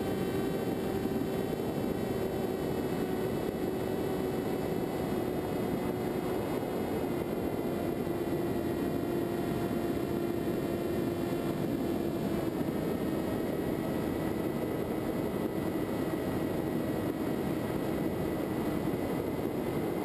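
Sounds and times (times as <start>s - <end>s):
model plane motor whine: 0.0s - 20.0s
rushing wind: 0.0s - 20.0s.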